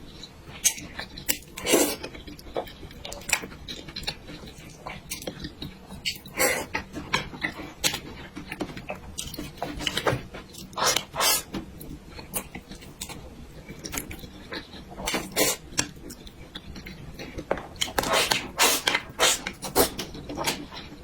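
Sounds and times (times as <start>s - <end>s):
wet chewing and mouth clicks: 0.1s - 21.0s.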